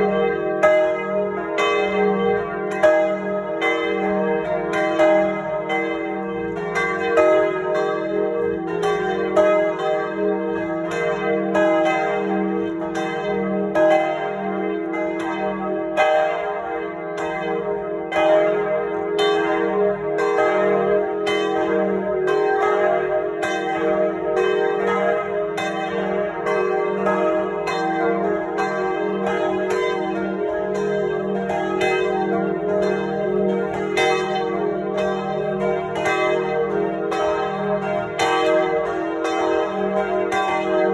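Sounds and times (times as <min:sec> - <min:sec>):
church bells ringing in peal: 0:00.0 - 0:40.9.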